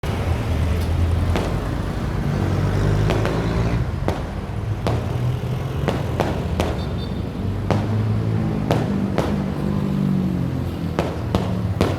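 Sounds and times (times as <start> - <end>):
fireworks bangs: 1.2 - 11.9.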